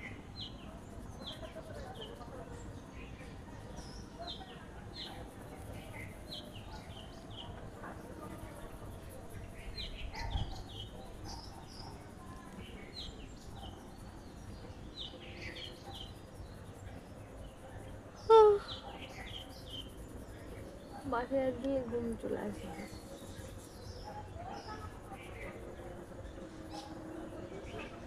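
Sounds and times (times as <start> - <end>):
faint high insect buzz: 0.0 - 28.0
small birds chirping: 0.0 - 28.0.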